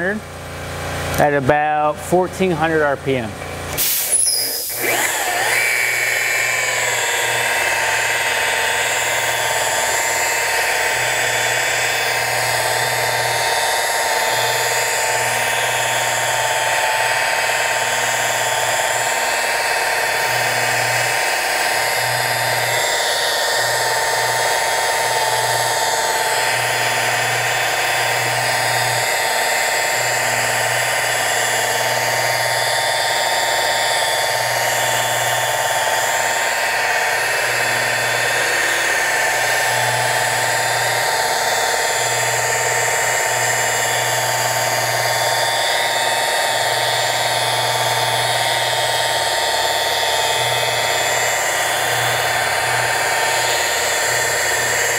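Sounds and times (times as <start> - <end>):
rotary polisher whine: 0.0 - 0.3, 0.9 - 54.9.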